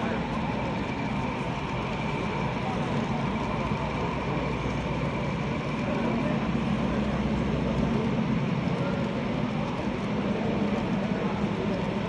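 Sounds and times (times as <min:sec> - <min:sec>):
background chatter of voices: 0:00.0 - 0:12.0
model train rolling on track: 0:00.0 - 0:12.0.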